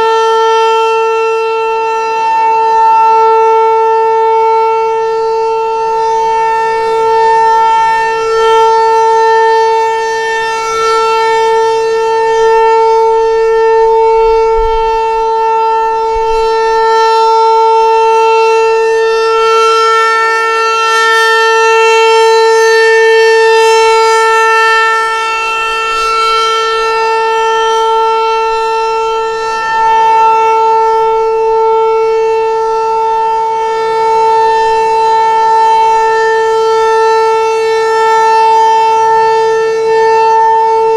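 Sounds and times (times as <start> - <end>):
rotating warning siren tone: 0.0 - 40.9.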